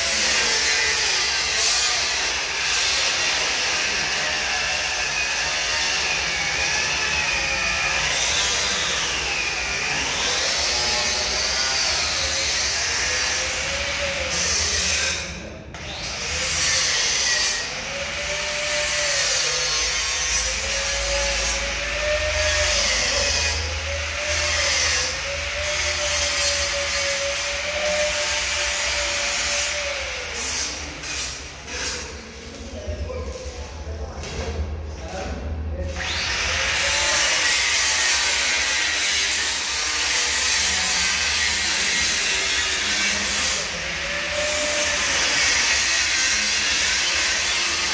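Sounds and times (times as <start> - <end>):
angle grinders grinding steel: 0.0 - 32.7, 35.8 - 47.9.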